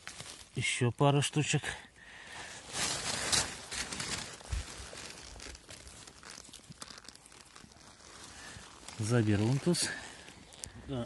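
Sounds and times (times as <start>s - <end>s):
rustling of wet undergrowth: 0.0s - 11.0s.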